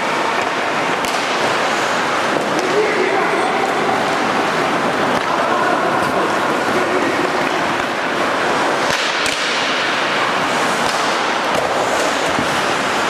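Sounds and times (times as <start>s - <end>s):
hockey sticks and puck clacking: 0.0s - 13.0s
skate blades scraping ice: 0.0s - 13.0s.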